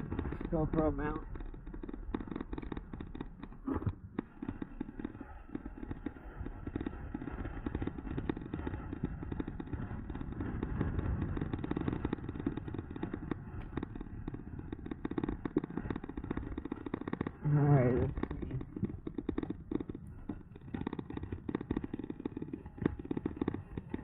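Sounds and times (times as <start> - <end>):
small rattling clicks: 0.0 - 24.0
wind and tyre rumble: 0.0 - 24.0.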